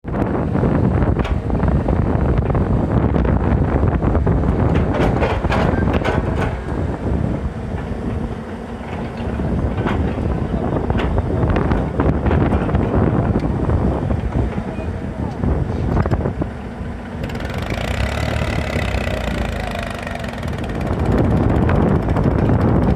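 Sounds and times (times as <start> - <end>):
wind buffeting microphone: 0.0 - 22.9
tractor diesel engine under load: 0.3 - 22.9.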